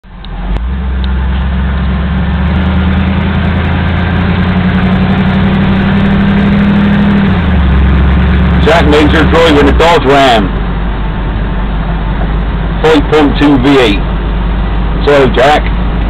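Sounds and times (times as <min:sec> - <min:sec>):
pickup engine running: 0:00.0 - 0:16.0.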